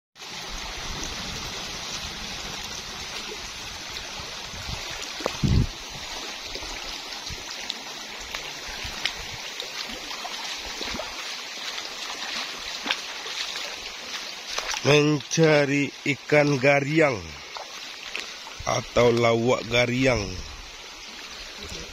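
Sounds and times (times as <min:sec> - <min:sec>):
water splashing around wading legs: 0:00.2 - 0:15.4, 0:16.2 - 0:19.4
stream rippling over stones: 0:00.2 - 0:21.9.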